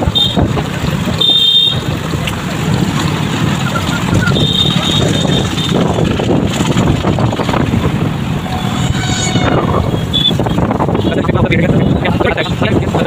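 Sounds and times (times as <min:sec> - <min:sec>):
motorcycle engine running: 0:00.0 - 0:11.1
wind rushing over microphone: 0:01.8 - 0:13.0.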